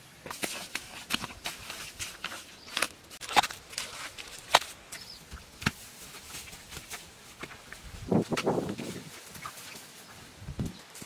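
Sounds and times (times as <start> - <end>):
rustle of dry grass and soil: 0.0 - 11.0
shovel knocking and scraping earth: 0.2 - 9.8.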